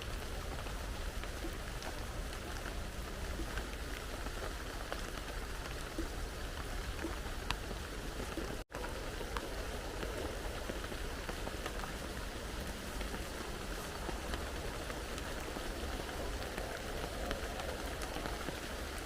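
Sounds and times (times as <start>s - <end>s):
heavy rain falling: 0.0s - 19.0s
raindrops ticking on a surface: 0.0s - 19.0s.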